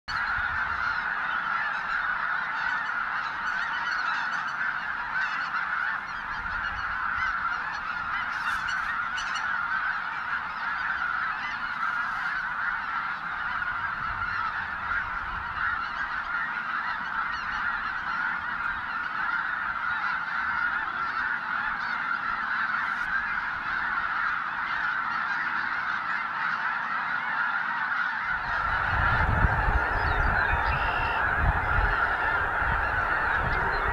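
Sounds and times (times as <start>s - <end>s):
geese honking: 0.1s - 33.9s.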